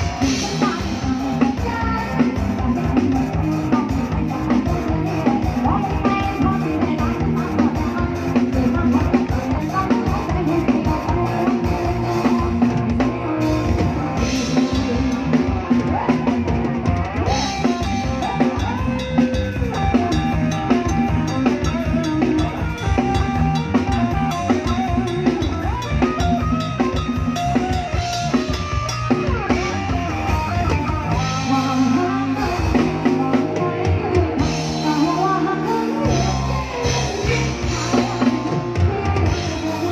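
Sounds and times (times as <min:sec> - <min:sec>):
drum kit beat: 0:00.0 - 0:39.9
live band music: 0:00.0 - 0:39.9.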